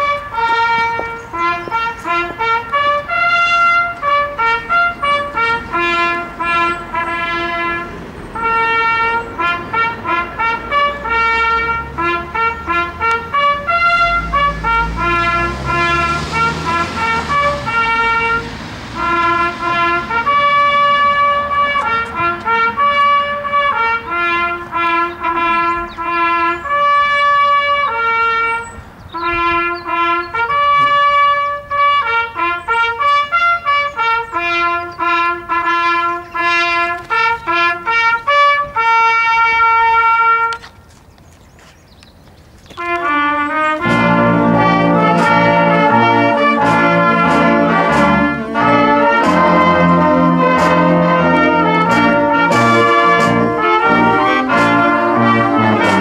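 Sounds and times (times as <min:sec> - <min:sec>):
trumpet solo: 0:00.0 - 0:40.8, 0:42.8 - 0:56.0.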